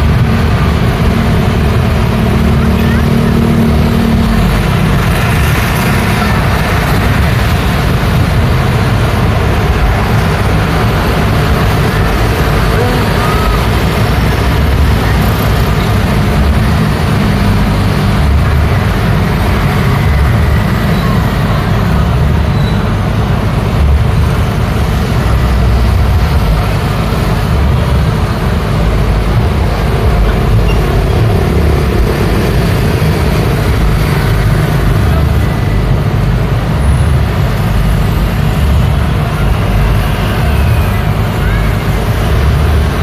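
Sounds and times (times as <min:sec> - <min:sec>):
scooters and motorcycles passing: 0:00.0 - 0:43.0.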